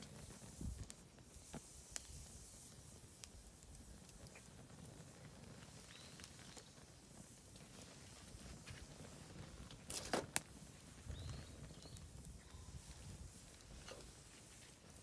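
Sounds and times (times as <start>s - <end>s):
fire rumbling and crackling: 0.0s - 15.0s.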